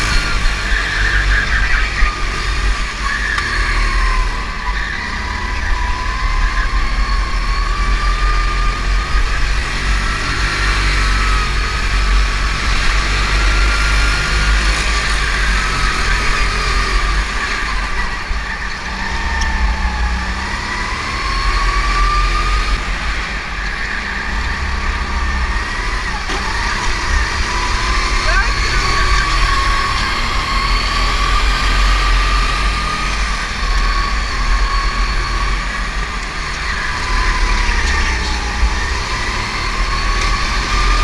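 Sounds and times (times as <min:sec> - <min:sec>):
go-kart engine revving: 0:00.0 - 0:41.0.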